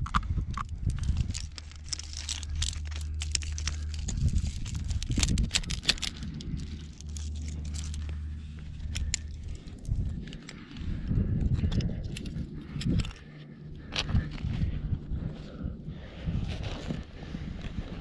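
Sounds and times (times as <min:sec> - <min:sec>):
climbing gear clicks and scrapes: 0:00.0 - 0:18.0
steady low rumble: 0:00.0 - 0:18.0.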